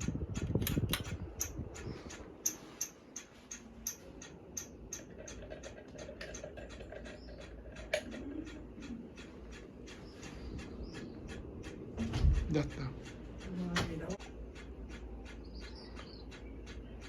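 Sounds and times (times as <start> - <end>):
ceiling fan humming: 0.0 - 17.0
rapid regular ticking: 0.0 - 17.0.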